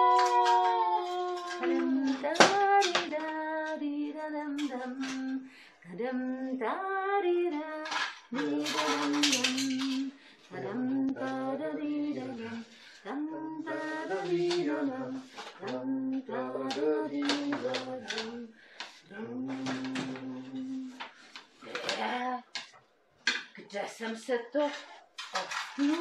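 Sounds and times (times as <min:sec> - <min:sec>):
woman singing: 0:00.0 - 0:21.1, 0:21.7 - 0:22.6, 0:24.0 - 0:24.9, 0:25.6 - 0:26.0.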